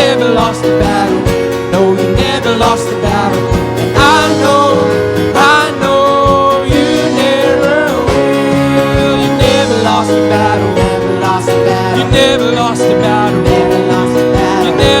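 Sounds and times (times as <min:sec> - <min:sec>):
band playing: 0:00.0 - 0:15.0
person singing long notes: 0:00.0 - 0:15.0
steady drum beat: 0:00.0 - 0:15.0.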